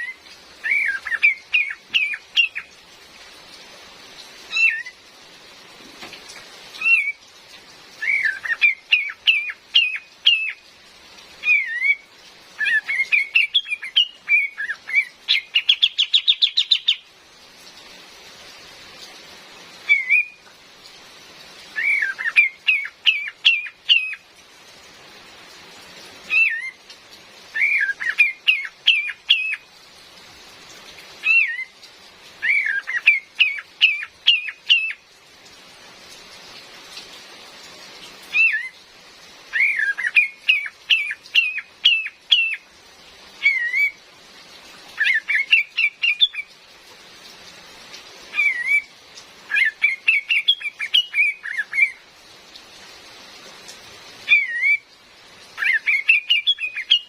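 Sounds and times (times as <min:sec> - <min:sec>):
rain hissing: 0:00.0 - 0:57.0.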